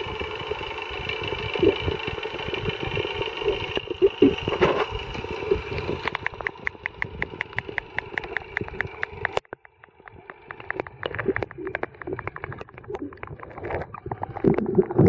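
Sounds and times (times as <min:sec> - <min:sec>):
fast even ticking: 0:00.0 - 0:13.4
underwater engine hum: 0:00.0 - 0:15.0.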